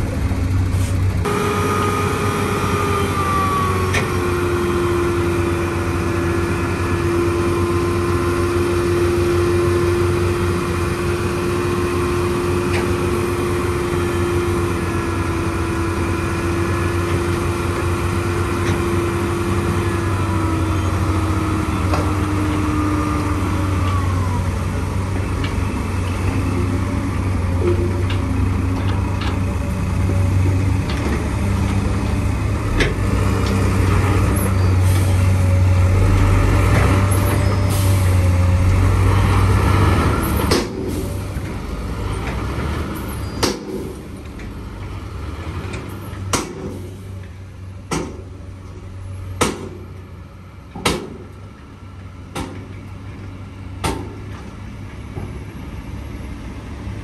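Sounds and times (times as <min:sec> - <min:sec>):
diesel engines running: 0:00.0 - 0:57.0
engine whine: 0:00.0 - 0:57.0.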